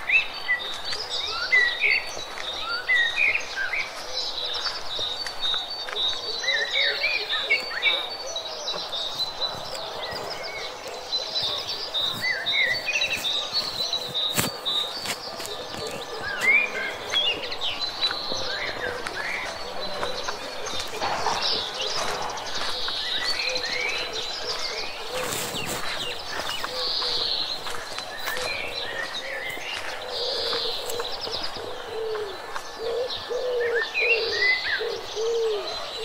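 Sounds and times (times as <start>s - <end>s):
birds chirping and singing: 0.0s - 36.0s.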